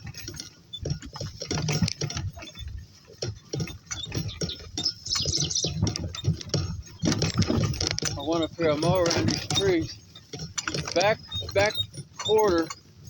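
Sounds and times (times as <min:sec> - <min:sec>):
hooves and harness clicking: 0:00.0 - 0:13.0
metallic harness jingle: 0:00.0 - 0:13.0.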